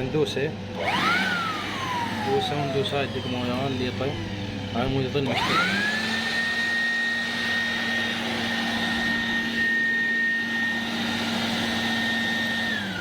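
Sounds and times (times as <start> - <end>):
electric air blower whining: 0.0 - 13.0.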